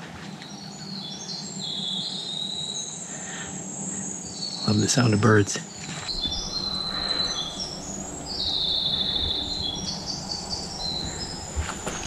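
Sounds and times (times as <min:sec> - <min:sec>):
songbirds singing: 0:00.0 - 0:12.0
bird trill: 0:00.5 - 0:12.0.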